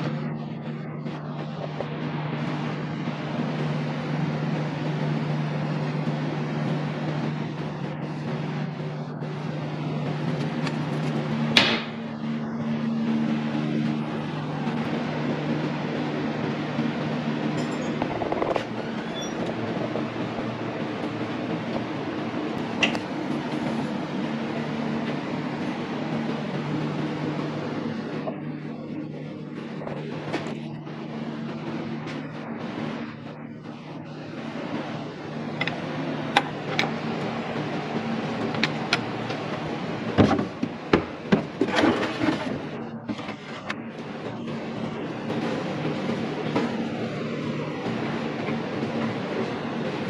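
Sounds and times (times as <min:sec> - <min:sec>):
machine humming: 0:00.0 - 0:50.0.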